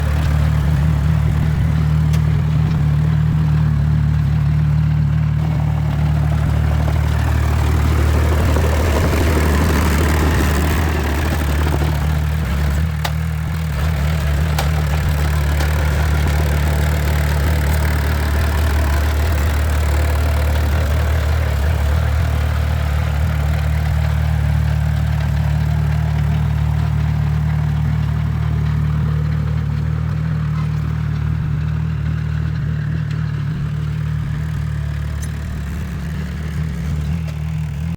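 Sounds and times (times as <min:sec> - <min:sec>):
heavy machinery engine droning: 0:00.0 - 0:37.9.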